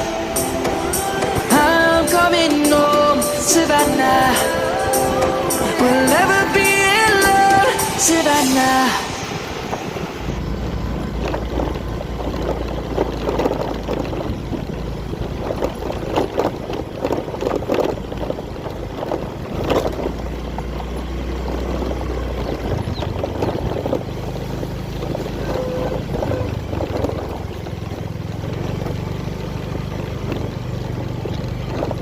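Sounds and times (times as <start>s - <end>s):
low engine hum: 0.0s - 32.0s
water splashing and rushing: 0.0s - 32.0s.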